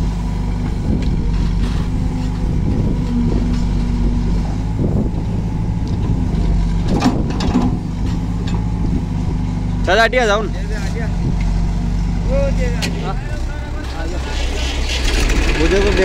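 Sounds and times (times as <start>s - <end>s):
backhoe diesel engine running: 0.0s - 16.0s.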